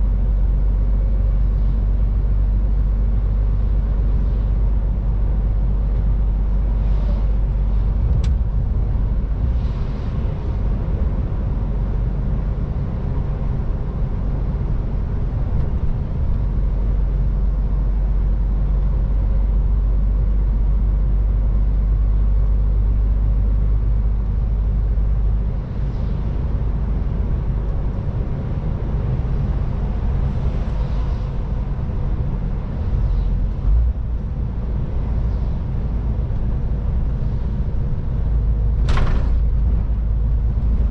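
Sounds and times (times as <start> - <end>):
truck diesel engine drone: 0.0 - 40.9
tyres rumbling on road: 0.0 - 40.9.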